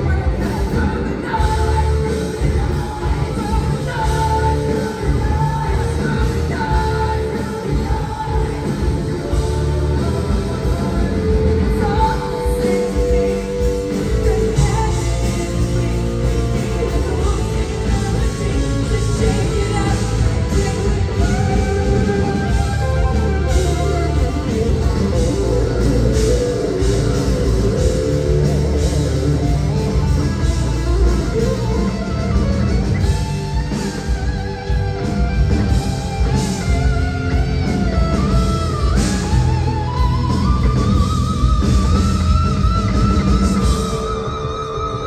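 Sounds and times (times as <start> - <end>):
bass guitar: 0.0 - 45.0
drums: 0.0 - 45.0
electric guitar lead: 0.0 - 45.0.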